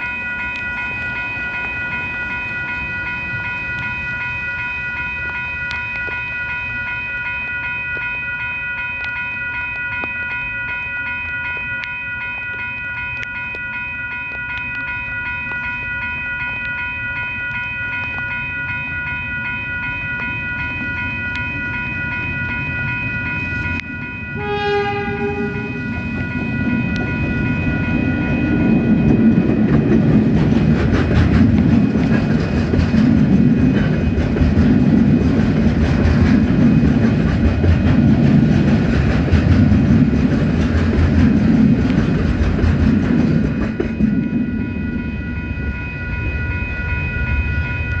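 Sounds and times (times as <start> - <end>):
freight train rumbling: 0.0 - 9.7, 14.6 - 48.0
crossing alarm bells ringing: 0.0 - 48.0.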